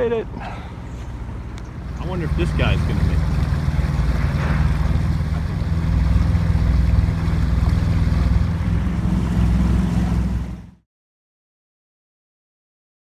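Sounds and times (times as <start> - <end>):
boat engine droning: 0.0 - 10.8.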